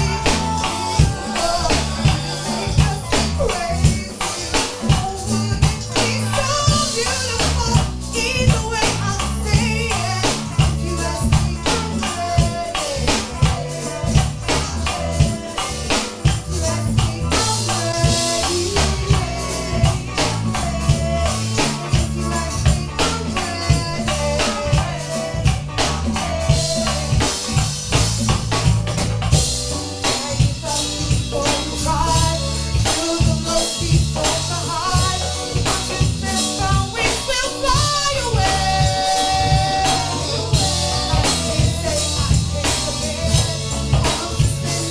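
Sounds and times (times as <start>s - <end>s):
song with drum beat and bass: 0.0s - 44.9s.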